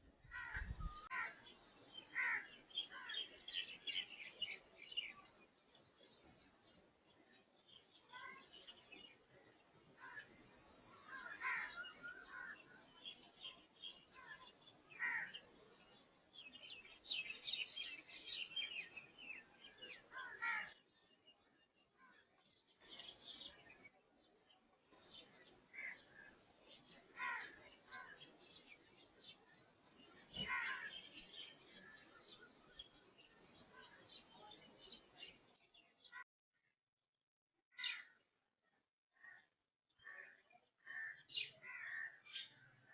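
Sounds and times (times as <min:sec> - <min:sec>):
small birds chirping: 0:00.0 - 0:36.2, 0:37.7 - 0:42.9.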